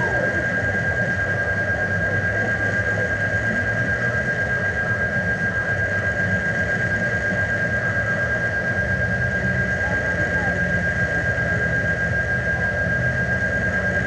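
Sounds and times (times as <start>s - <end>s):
high whine: 0.0s - 14.0s
low mechanical hum: 0.0s - 14.0s.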